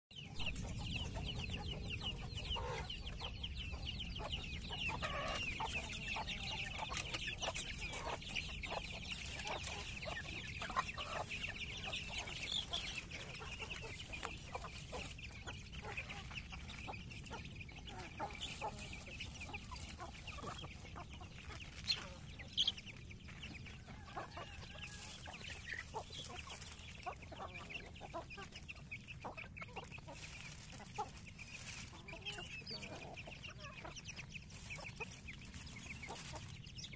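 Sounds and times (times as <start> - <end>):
chickens clucking: 0.1 - 36.9
chicks peeping: 0.1 - 36.9.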